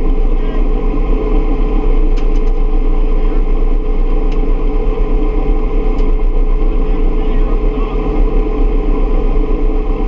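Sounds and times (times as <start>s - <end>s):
helicopter turbine and rotor: 0.0s - 10.0s.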